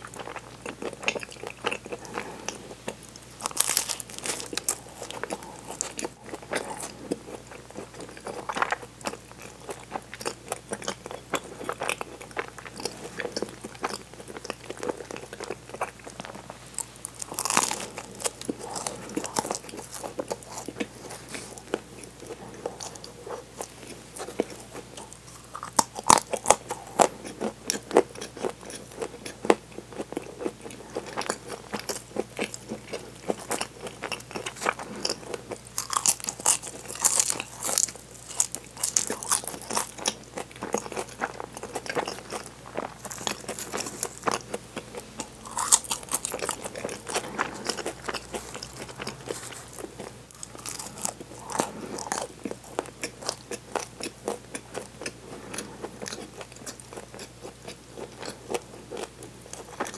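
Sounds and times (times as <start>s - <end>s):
crunching flaky pastry: 0.0s - 59.9s.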